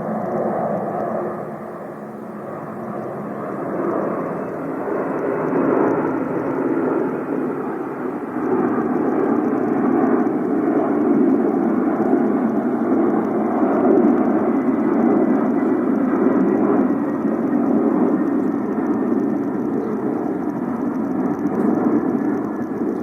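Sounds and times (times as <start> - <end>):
airplane flying overhead: 0.0 - 23.0.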